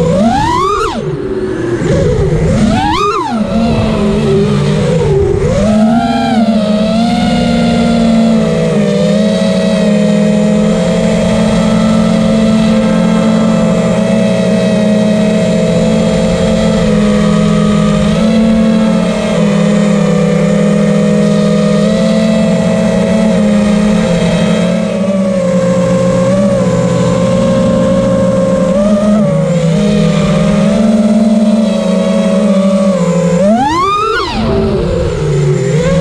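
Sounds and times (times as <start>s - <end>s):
drone motors buzzing whine: 0.0s - 36.0s.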